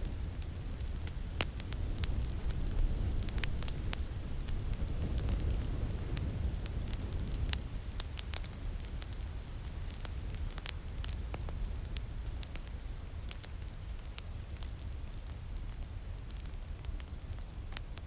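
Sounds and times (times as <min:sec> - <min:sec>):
fire crackling and popping: 0:00.0 - 0:18.0
low rumble of wind: 0:00.0 - 0:18.0.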